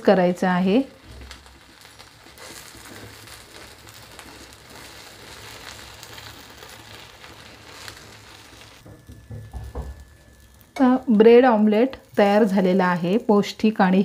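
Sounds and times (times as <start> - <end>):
omelette sizzling in a pan: 0.0 - 14.0.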